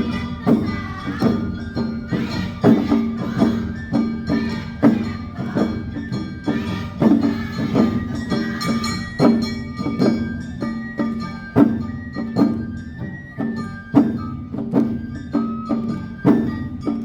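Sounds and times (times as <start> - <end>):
bamboo flute: 0.0 - 17.0
drums: 0.0 - 17.0
shamisen: 0.0 - 17.0.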